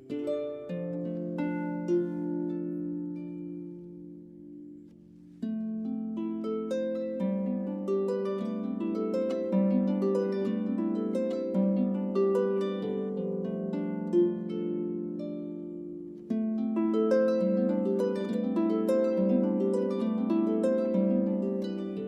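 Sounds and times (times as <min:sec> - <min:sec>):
solo harp melody: 0:00.0 - 0:22.0.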